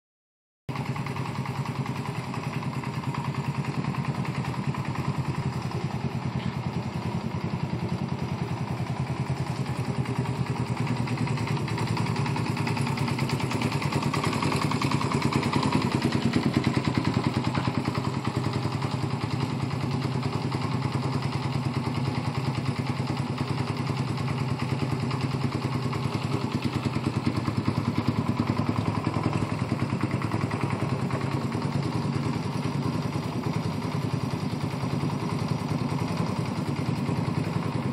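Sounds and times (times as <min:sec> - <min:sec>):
motorcycle engine idling: 0:00.7 - 0:37.9.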